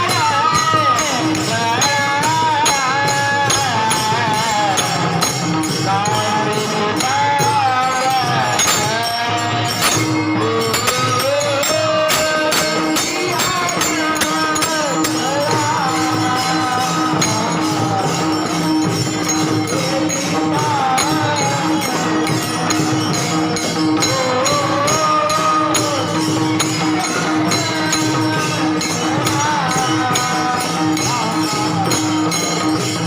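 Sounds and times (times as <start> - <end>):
hand cymbals jingling: 0.0 - 33.0
person singing devotional melody: 0.0 - 33.0.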